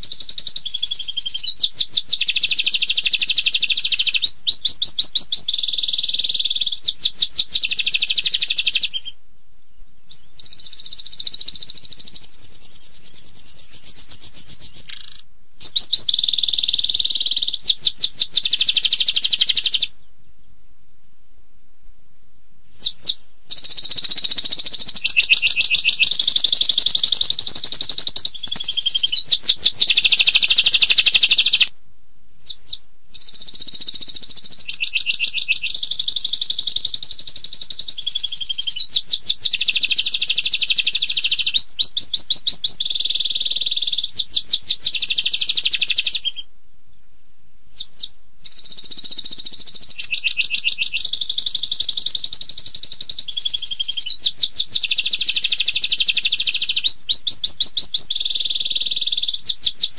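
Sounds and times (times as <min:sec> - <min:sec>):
canary singing trills: 0:00.0 - 0:20.6, 0:22.7 - 0:31.7, 0:32.4 - 0:46.5, 0:47.7 - 0:59.9.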